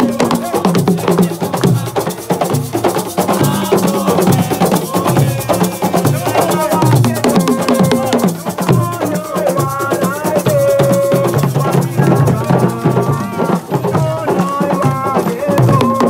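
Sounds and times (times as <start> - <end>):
hand drums: 0.0 - 16.0
shaker rhythm: 0.0 - 16.0
voices singing: 0.0 - 16.0.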